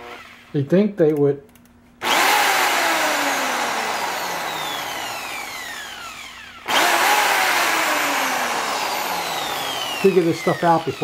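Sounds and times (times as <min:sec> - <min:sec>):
drill motor whining: 0:00.0 - 0:00.6, 0:02.0 - 0:11.0.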